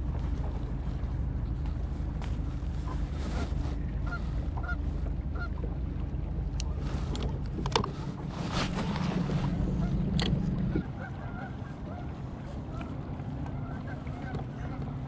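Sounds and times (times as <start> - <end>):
boat motor running: 0.0 - 15.0
water noise: 0.0 - 15.0
wind: 0.0 - 15.0.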